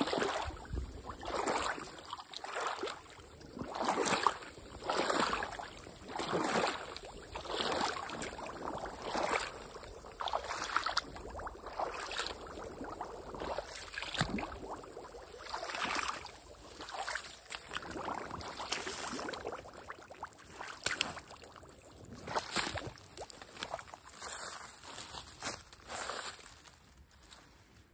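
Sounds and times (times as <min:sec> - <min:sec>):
boots splashing through water: 0:00.0 - 0:26.7.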